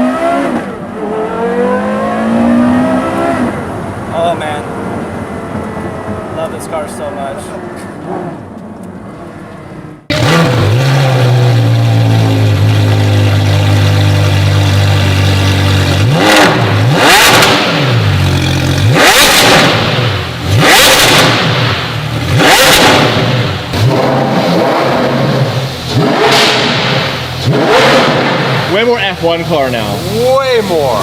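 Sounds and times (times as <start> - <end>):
sports car engine revving: 0.0 - 6.4, 10.0 - 31.0.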